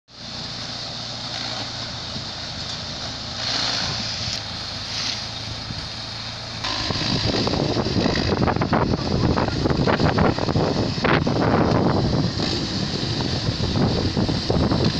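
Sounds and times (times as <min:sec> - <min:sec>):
tractor engine hum: 0:00.1 - 0:14.9
stalk chopper shredding: 0:00.2 - 0:14.9.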